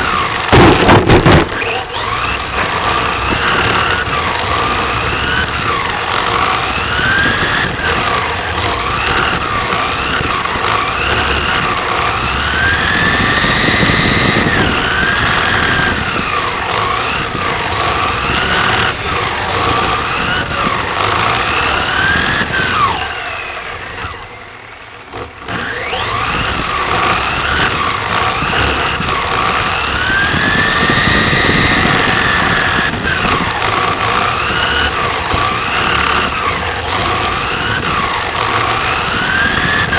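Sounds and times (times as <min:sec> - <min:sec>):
rc car electric motor whining: 0:00.0 - 0:39.9.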